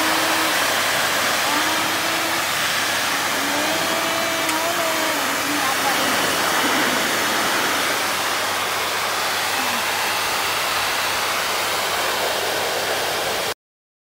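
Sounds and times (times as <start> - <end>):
pet blower dryer rushing air: 0.0 - 13.6.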